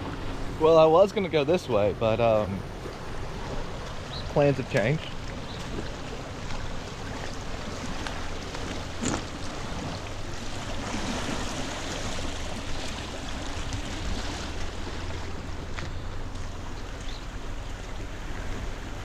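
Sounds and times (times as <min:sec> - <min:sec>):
creek rushing: 0:00.0 - 0:19.0
wind rumble on microphone: 0:00.0 - 0:19.0.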